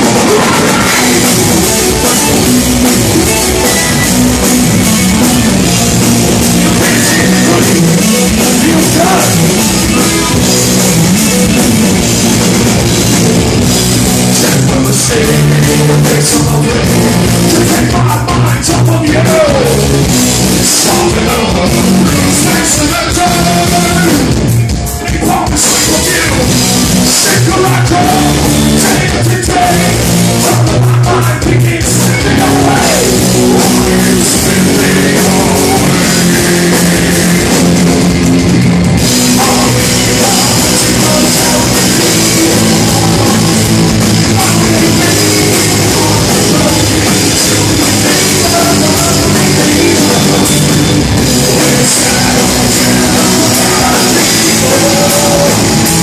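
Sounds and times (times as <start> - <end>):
person singing: 0.0 - 4.1, 6.4 - 10.5, 14.3 - 37.9, 39.1 - 56.0
drum kit: 0.0 - 56.0
guitars: 0.0 - 56.0.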